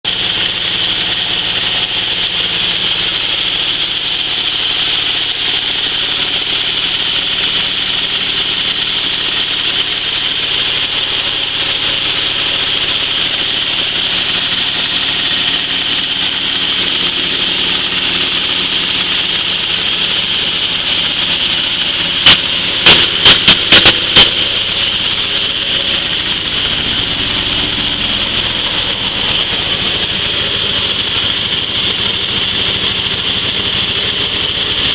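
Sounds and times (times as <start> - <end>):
coffee huller running with hiss: 0.1 - 34.9.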